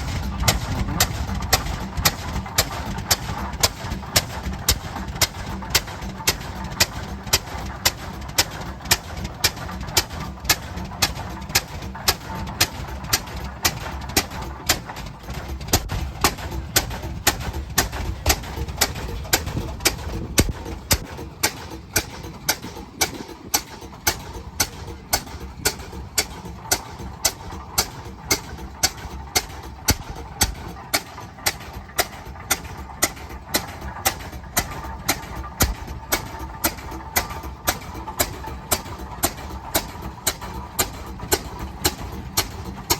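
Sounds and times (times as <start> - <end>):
tractor engine popping: 0.0 - 42.9.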